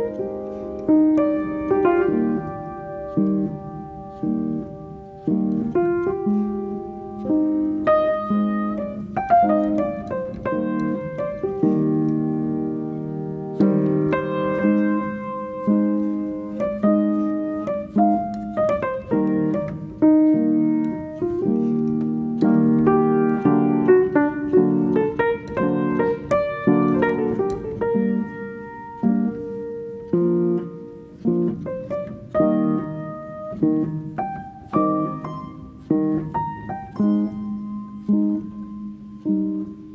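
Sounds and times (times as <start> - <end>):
solo piano melody: 0.0 - 39.9.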